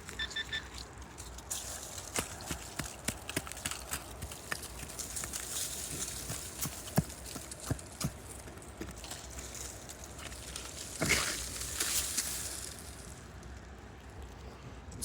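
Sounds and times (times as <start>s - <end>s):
scraping and crumbling dirt: 0.0s - 15.0s.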